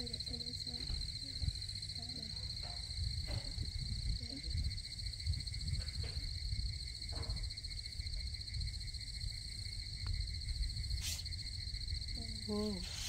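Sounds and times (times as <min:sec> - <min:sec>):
low rumble: 0:00.0 - 0:12.2
night insects trilling: 0:00.0 - 0:13.0.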